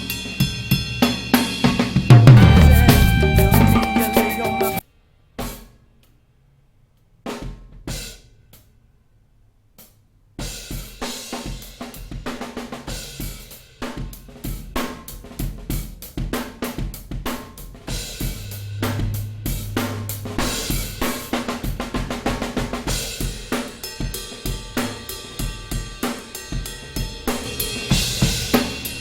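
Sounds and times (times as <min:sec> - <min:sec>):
drum kit playing: 0:00.0 - 0:04.8, 0:10.4 - 0:29.0.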